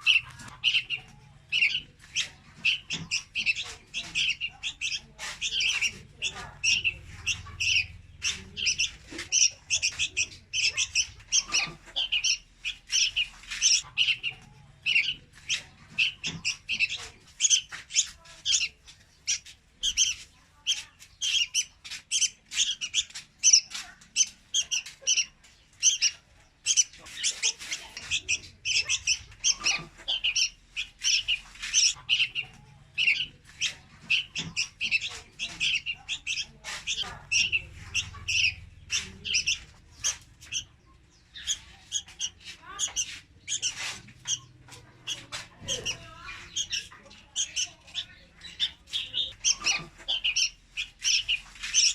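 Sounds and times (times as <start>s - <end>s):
bird chirping high: 0.0s - 51.9s.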